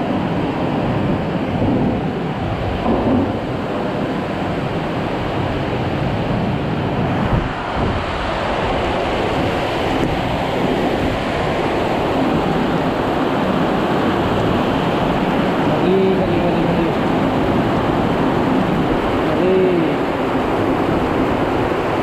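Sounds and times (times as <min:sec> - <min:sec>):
heavy rain roaring: 0:00.0 - 0:22.0
wind buffeting microphone: 0:00.0 - 0:22.0.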